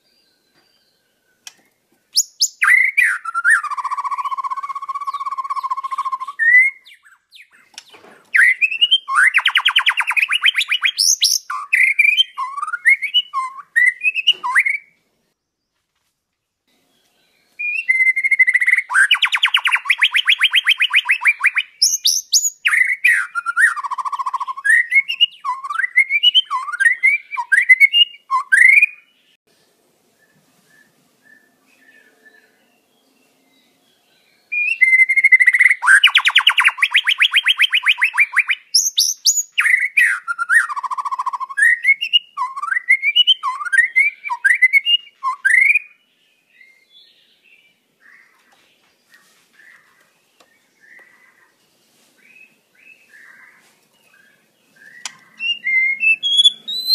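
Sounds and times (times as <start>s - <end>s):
songbird whistling and trilling: 0.0s - 15.0s, 16.9s - 29.4s, 30.2s - 48.5s, 49.1s - 51.6s, 52.2s - 56.9s.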